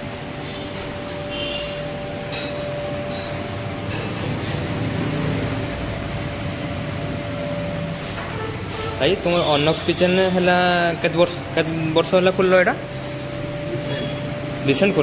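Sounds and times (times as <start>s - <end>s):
restaurant dining room hum: 0.0s - 15.0s.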